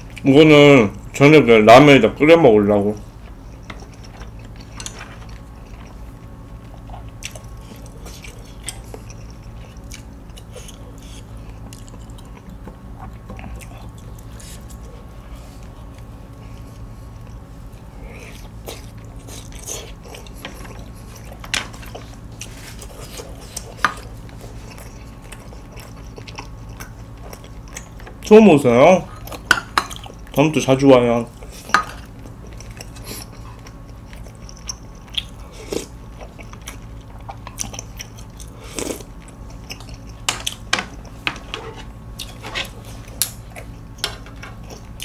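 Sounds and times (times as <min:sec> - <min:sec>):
steady low hum: 0:00.0 - 0:45.0
person chewing food: 0:02.9 - 0:28.3, 0:29.1 - 0:30.4, 0:31.3 - 0:45.0.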